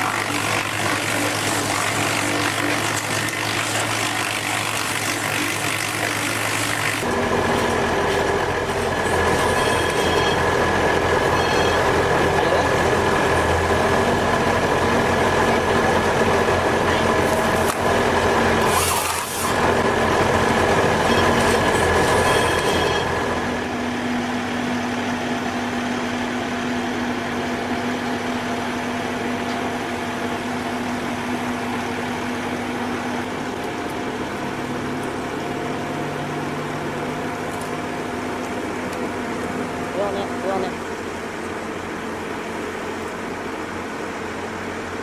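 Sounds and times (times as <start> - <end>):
heavy machine engine running: 0.0 - 45.0.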